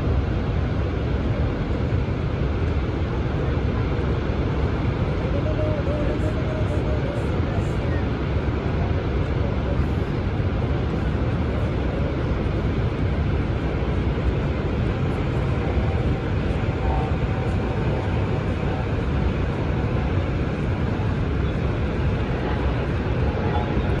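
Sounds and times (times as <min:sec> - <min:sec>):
waterfall roaring: 0:00.2 - 0:24.0.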